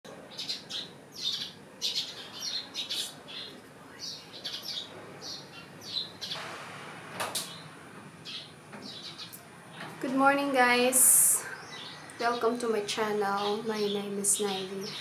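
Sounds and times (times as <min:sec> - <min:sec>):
birds chirping: 0:00.1 - 0:06.5, 0:07.3 - 0:15.0.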